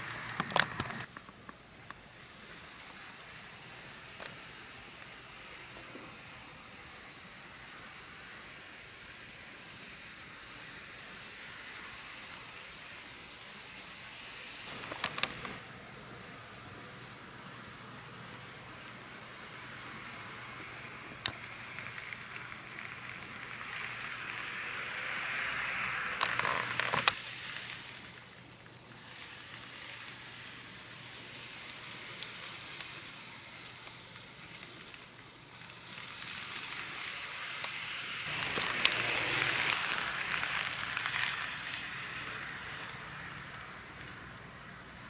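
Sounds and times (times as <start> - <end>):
model train wheels and motor rattling: 0.0 - 45.0.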